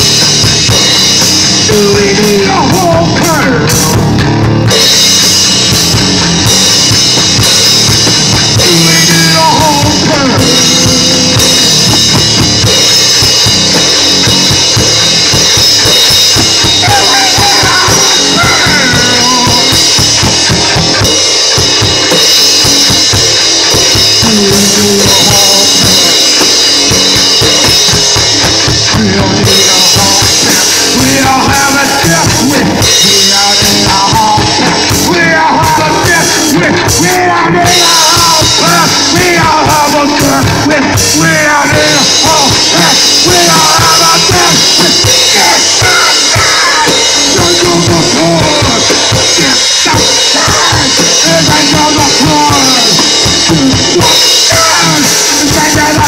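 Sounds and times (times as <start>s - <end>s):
drum kit pounding: 0.0s - 56.0s
guitar: 0.0s - 56.0s
rock band playing: 0.0s - 56.0s.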